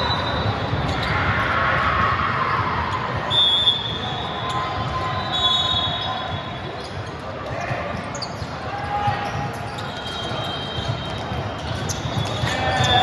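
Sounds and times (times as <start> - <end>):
indoor sports hall noise: 0.0 - 13.0.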